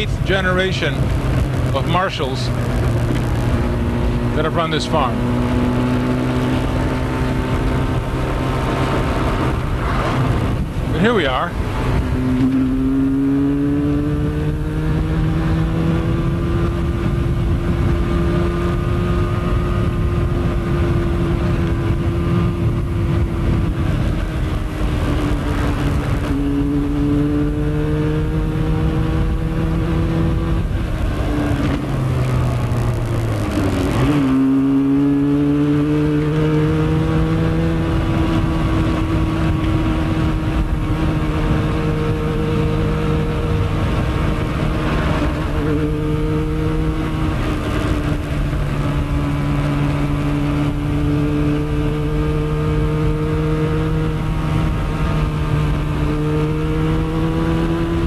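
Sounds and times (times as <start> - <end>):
motorcycle engine revving: 0.0 - 58.0
road and wind noise: 0.0 - 58.0.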